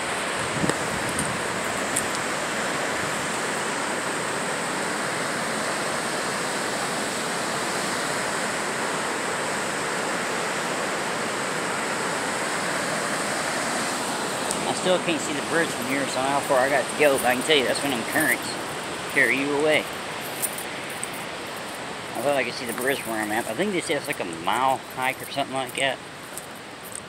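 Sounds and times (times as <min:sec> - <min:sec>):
river rushing: 0:00.0 - 0:27.0.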